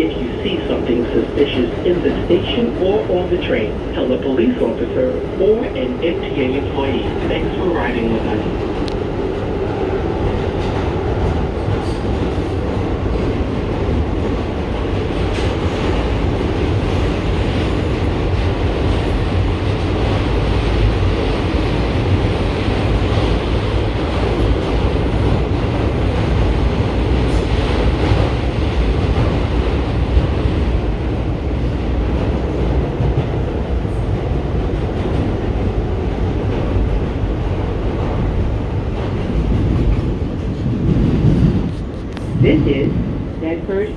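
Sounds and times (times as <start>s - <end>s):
subway train wheels on rails: 0.0s - 43.9s
train clickety-clack: 0.0s - 43.9s.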